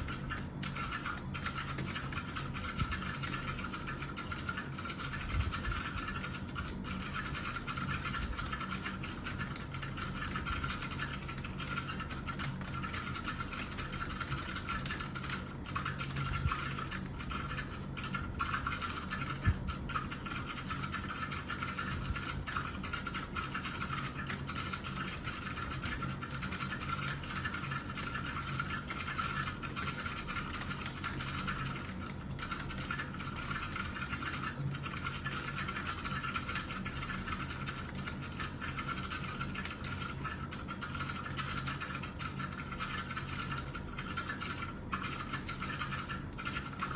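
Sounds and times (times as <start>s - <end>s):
fast typing on computer keyboard: 0.0s - 46.9s
steady low hum: 0.0s - 46.9s.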